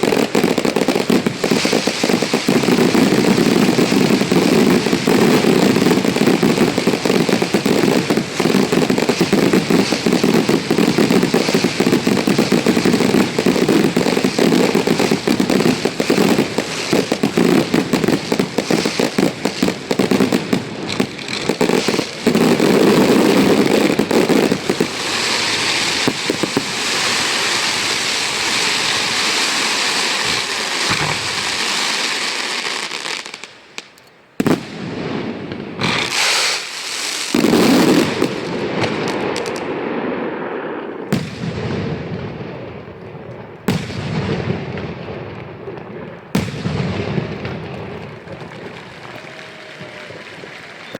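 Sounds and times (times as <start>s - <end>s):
fireworks hiss: 0.0s - 41.4s
fireworks bangs: 0.0s - 50.9s.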